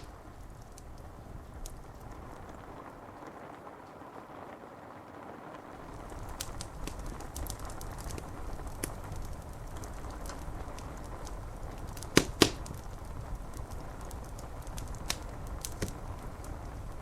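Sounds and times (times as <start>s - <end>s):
loud fire pops: 0.0s - 3.4s, 5.8s - 17.0s
rain on window glass: 0.0s - 17.0s
wood fire crackling: 0.0s - 17.0s.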